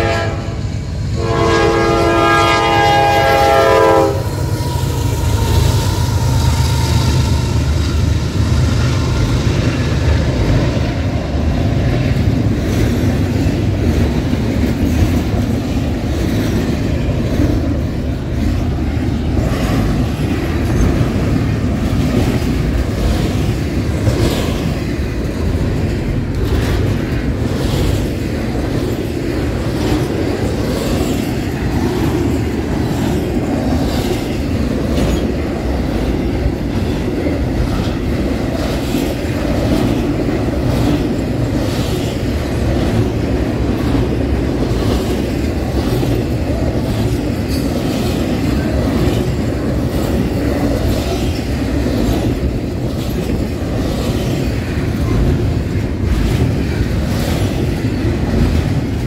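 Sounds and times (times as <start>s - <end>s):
clickety-clack over rail joints: 0.0s - 59.0s
train wheels rumbling on track: 0.0s - 59.0s.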